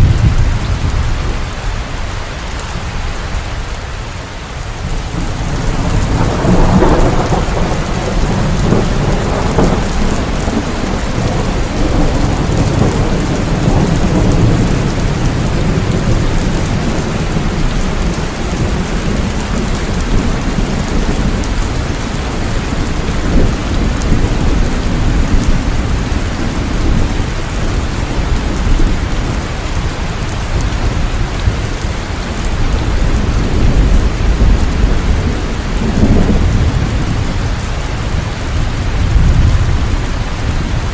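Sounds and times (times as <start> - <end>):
steady rain: 0.0 - 40.9
thunder rumbling: 0.0 - 40.9.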